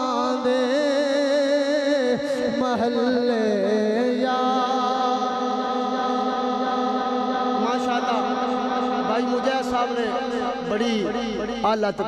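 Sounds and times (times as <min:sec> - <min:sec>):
man singing a melismatic note: 0:00.0 - 0:12.0.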